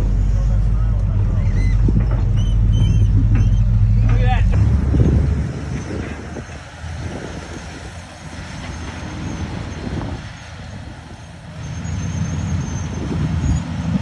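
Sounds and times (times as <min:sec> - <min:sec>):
heavy engine under load: 0:00.0 - 0:14.0.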